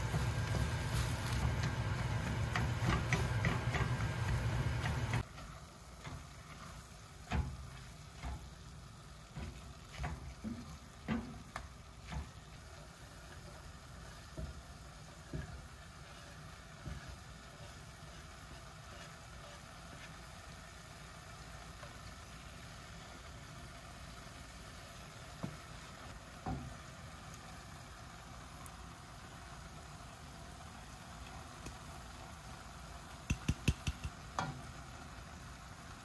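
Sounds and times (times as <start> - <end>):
cooking sizzle: 0.0 - 36.0.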